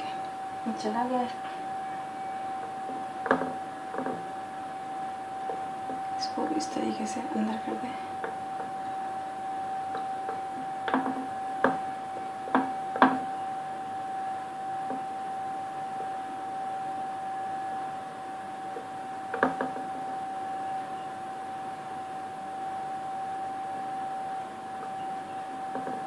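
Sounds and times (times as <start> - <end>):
faint high hum: 0.0 - 26.0.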